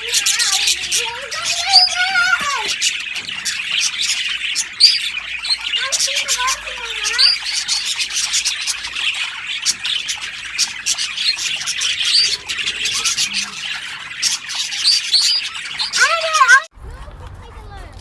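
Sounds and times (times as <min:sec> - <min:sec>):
small birds chirping: 0:00.0 - 0:16.7.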